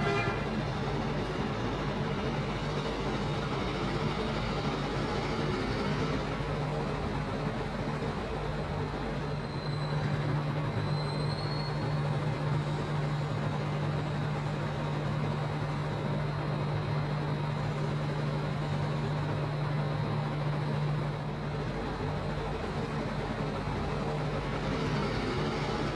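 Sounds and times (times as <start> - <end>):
constant rushing noise: 0.0 - 25.9
low machine hum: 0.0 - 25.9.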